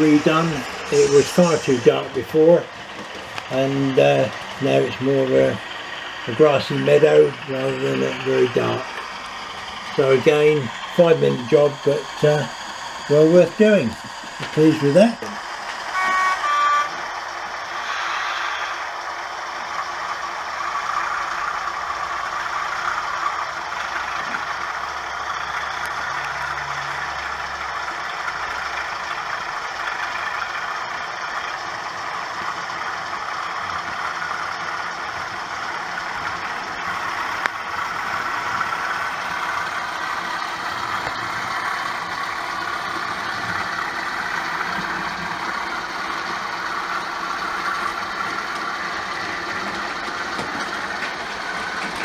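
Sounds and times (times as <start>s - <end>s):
model train diesel engine sound: 0.0s - 52.0s.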